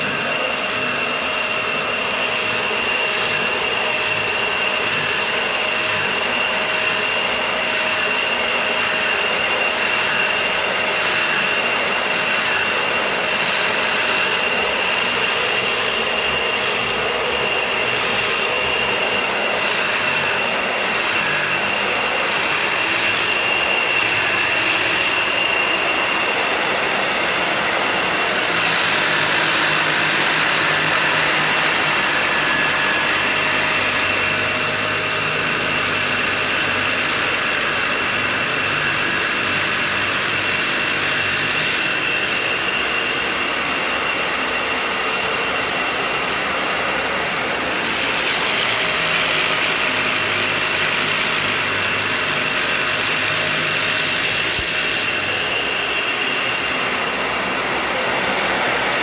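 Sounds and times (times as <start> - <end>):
vacuum cleaner running on rug: 0.0 - 59.0.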